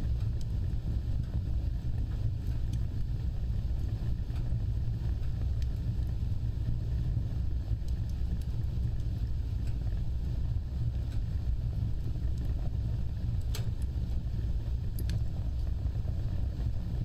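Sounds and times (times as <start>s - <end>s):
fire crackles: 0.0s - 17.0s
wood fire rumbling: 0.0s - 17.0s.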